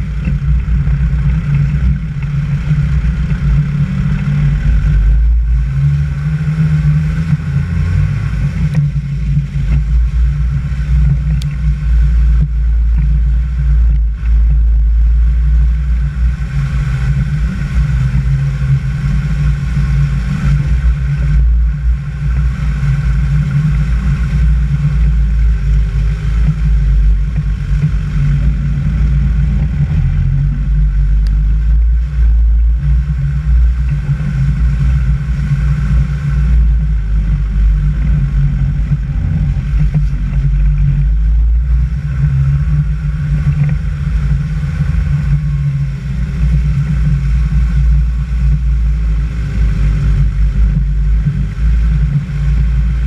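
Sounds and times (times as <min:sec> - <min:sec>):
heavy low rumble: 0:00.0 - 0:53.0
vehicle engine drone: 0:00.0 - 0:53.0.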